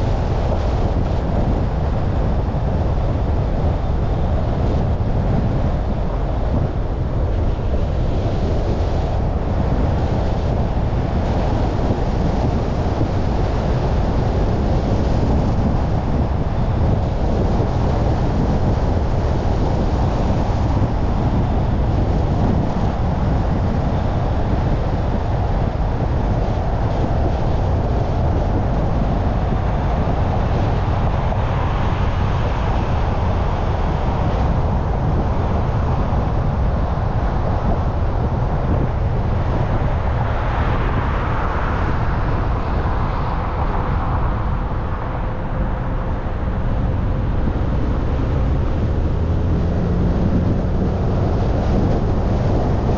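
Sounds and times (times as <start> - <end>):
road rumble: 0.0 - 52.9
wind on microphone: 0.0 - 52.9.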